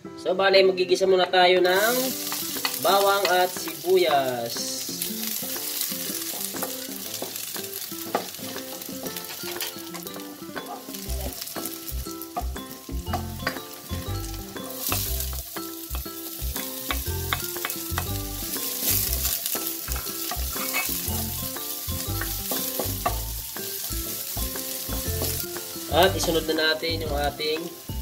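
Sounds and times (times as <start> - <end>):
garlic and onion sizzling in oil: 1.5 - 28.0
spatula scraping and tapping pan: 1.7 - 4.1, 5.0 - 13.7, 14.6 - 26.5.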